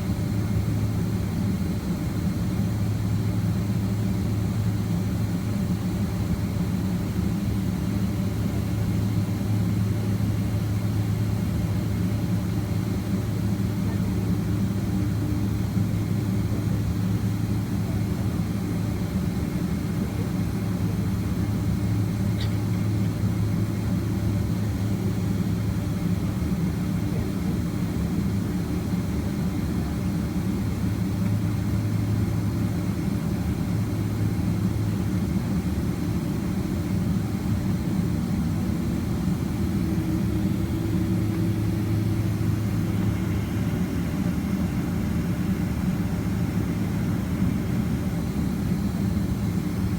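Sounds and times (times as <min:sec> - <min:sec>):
jet engines droning in cabin: 0:00.0 - 0:49.9.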